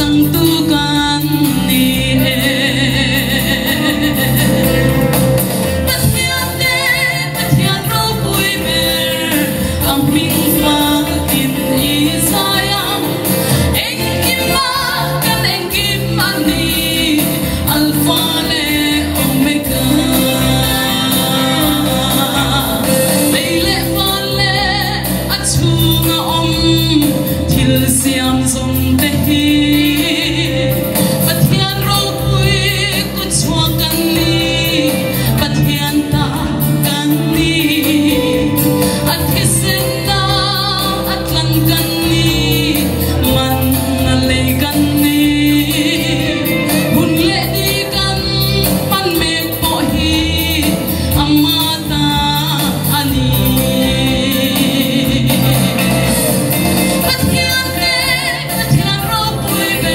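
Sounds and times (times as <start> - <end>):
instrumental accompaniment: 0.0 - 59.9
woman singing into a microphone: 0.0 - 59.9.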